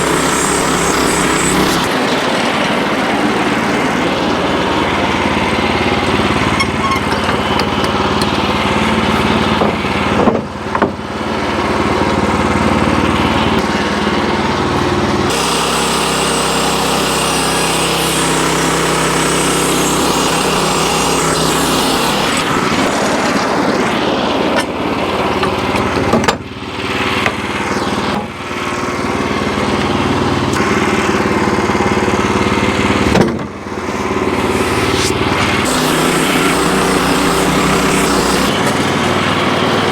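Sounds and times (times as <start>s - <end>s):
sawmill sawing a log: 0.0s - 39.9s.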